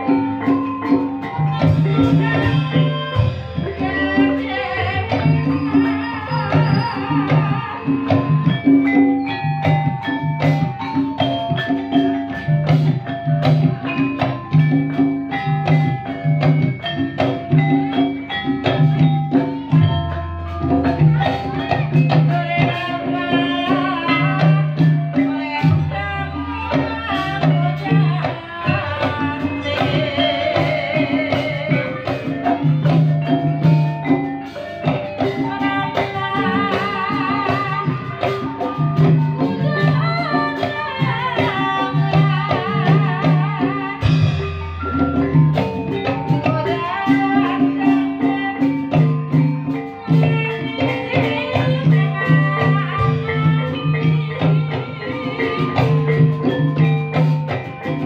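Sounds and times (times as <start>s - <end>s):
mallet percussion melody: 0.0s - 58.0s
repeating drum pattern: 0.0s - 58.0s
wavering melody line: 0.0s - 58.0s.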